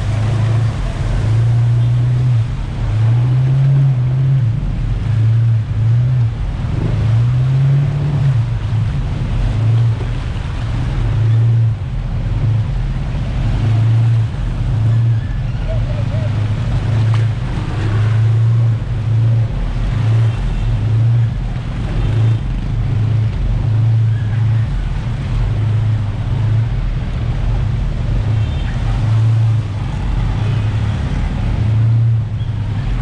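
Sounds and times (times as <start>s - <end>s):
jet ski engine droning: 0.0s - 33.0s.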